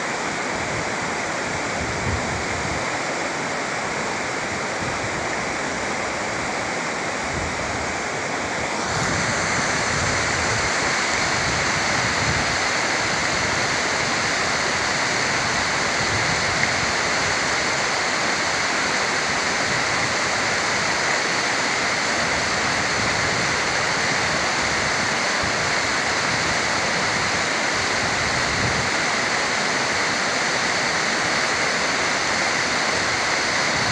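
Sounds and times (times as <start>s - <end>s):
mountain stream rushing: 0.0s - 33.9s.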